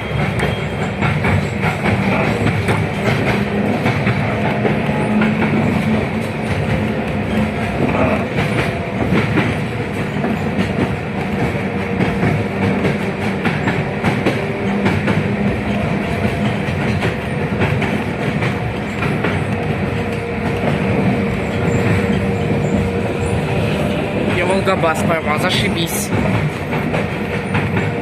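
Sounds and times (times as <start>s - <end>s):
tram running noise: 0.0s - 28.0s
tram wheels rattling over rails: 0.0s - 28.0s.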